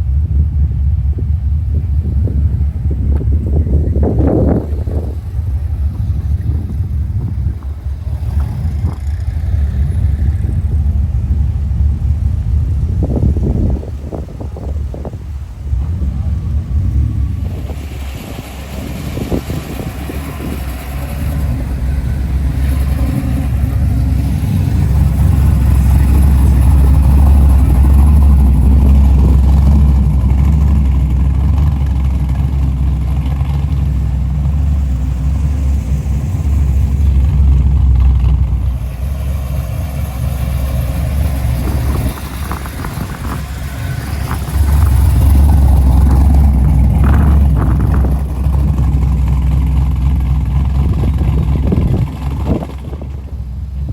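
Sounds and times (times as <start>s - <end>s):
muscle car engine rumble: 0.0s - 53.9s.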